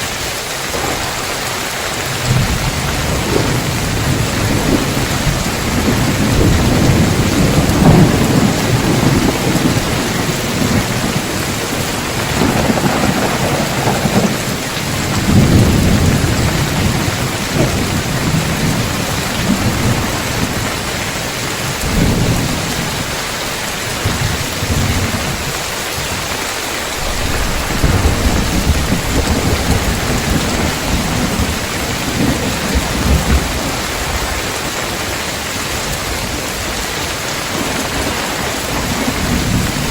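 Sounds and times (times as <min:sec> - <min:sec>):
heavy rain on a tiled roof: 0:00.0 - 0:39.9
thunder rumbling: 0:00.0 - 0:39.9.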